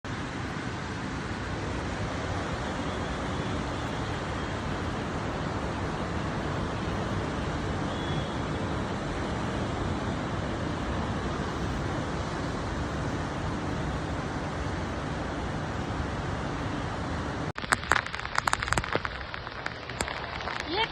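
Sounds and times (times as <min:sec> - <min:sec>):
heavy rain falling: 0:00.1 - 0:20.9.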